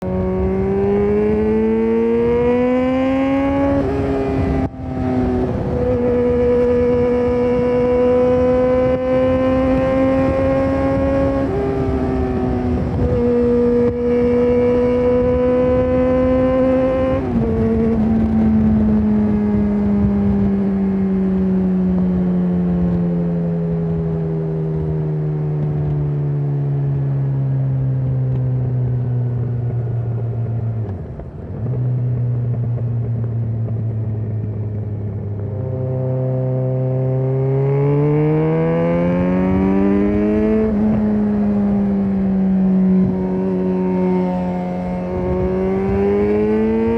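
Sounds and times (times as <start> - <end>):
motorcycle engine: 0.0 - 46.9
wind noise: 0.0 - 46.9.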